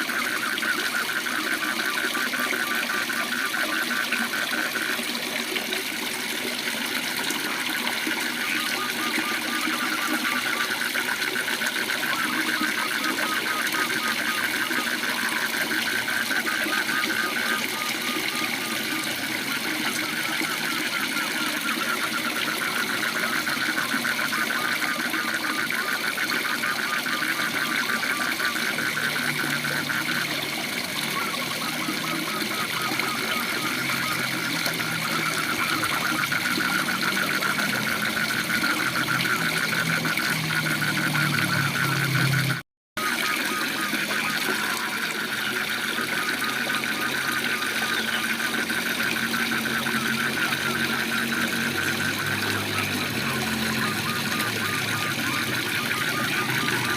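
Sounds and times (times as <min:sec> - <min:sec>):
frog calling: 0:00.0 - 0:56.9.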